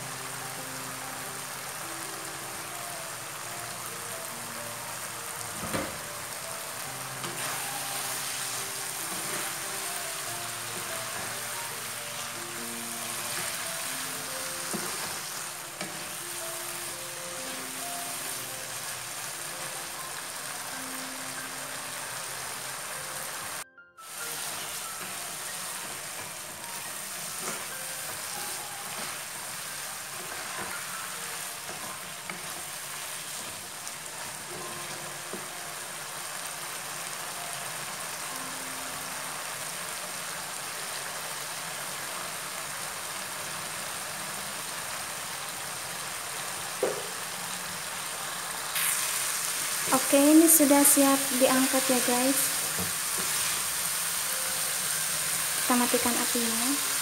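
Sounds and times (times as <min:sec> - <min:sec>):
chilli paste sizzling in a wok: 0:00.0 - 0:57.0.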